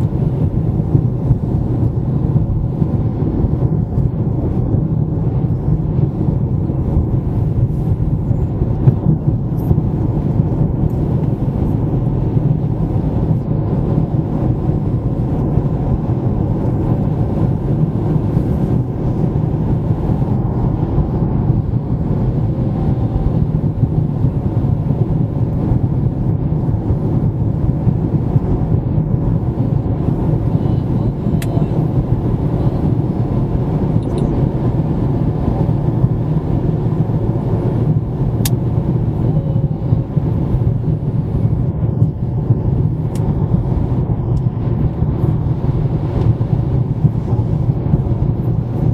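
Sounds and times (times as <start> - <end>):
low engine hum: 0.0 - 48.9
tyre and road noise: 0.0 - 48.9.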